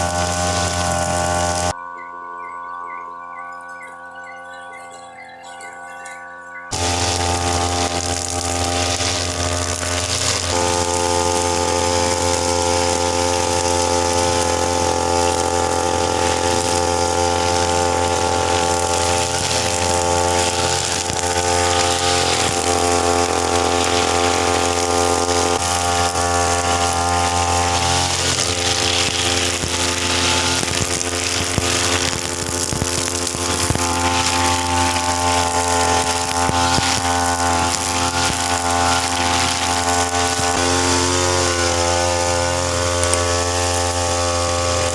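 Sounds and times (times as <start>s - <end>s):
brush cutter engine running: 0.0s - 1.8s, 5.5s - 44.9s
nylon line cutting grass: 0.0s - 1.8s, 5.5s - 44.9s.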